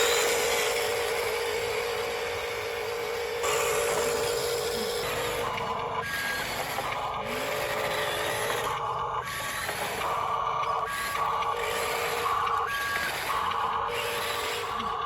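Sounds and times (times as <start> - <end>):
toy motors and gearboxes whirring: 0.0 - 15.0.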